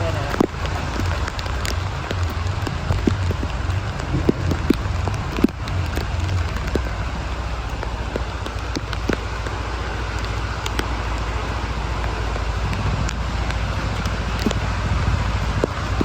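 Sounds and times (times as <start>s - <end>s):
drops clicking close by: 0.0s - 16.0s
heavy rain falling: 0.0s - 16.0s
vehicle engine rumble: 0.0s - 16.0s.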